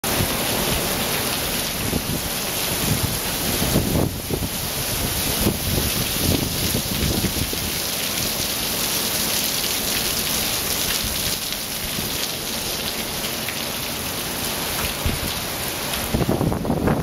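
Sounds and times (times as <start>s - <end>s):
heavy rain on paving and grass: 0.0s - 17.0s.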